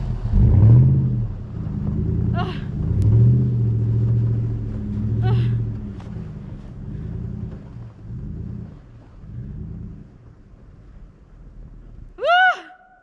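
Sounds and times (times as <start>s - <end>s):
truck engine revving: 0.0s - 12.2s.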